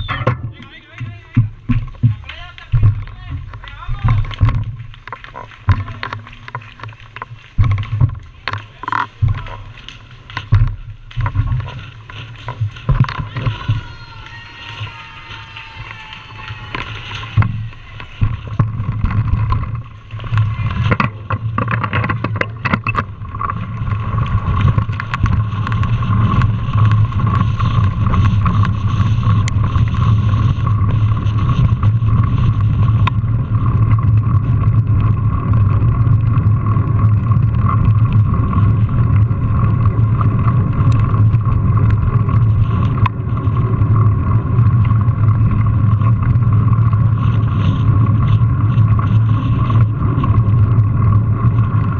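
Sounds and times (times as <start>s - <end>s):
bike knocking over rough ground: 0.0s - 51.9s
bike tyres and frame rumbling: 0.0s - 51.9s
wind rushing over microphone: 7.5s - 51.9s.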